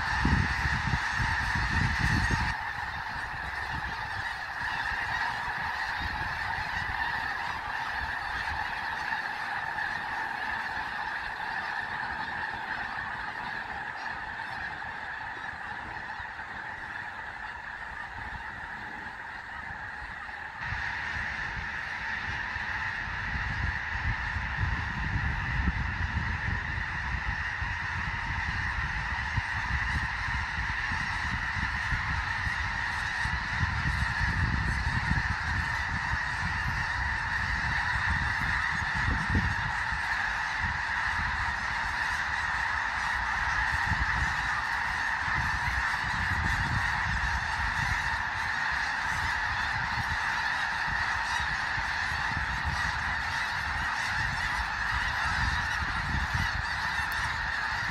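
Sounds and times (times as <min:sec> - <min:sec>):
flock of geese honking: 0:00.0 - 0:57.9.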